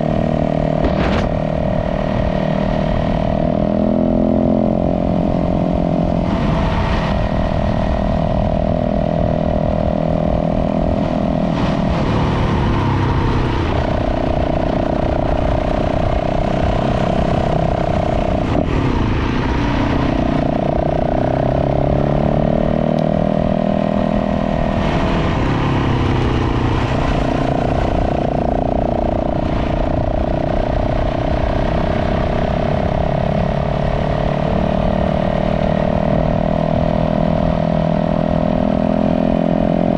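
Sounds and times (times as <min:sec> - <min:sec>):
dirt bike engine running: 0:00.0 - 0:22.4, 0:23.2 - 0:38.3.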